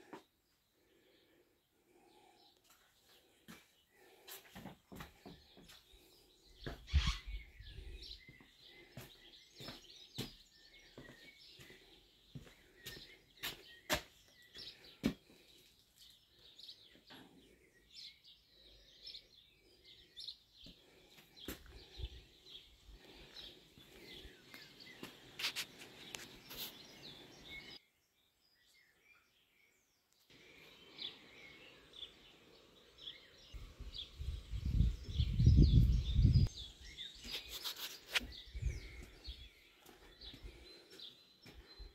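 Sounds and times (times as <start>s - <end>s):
small birds chirping and singing: 0.0s - 41.9s.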